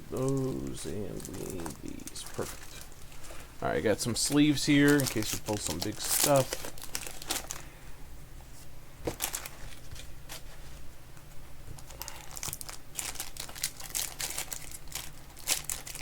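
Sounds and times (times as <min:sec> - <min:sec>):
plastic crinkling and rustling: 0:00.1 - 0:07.7, 0:09.0 - 0:10.7, 0:11.8 - 0:16.0.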